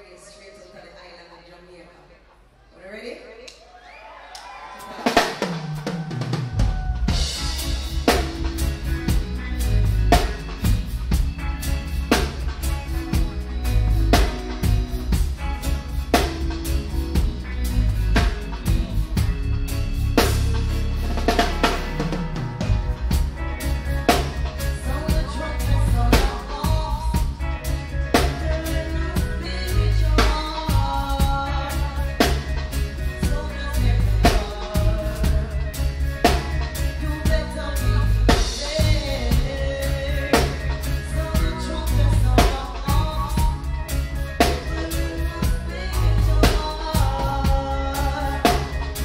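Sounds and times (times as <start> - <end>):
reggae band playing: 3.7 - 49.0
drum beat with cymbals: 4.7 - 49.0
bass guitar: 5.0 - 49.0.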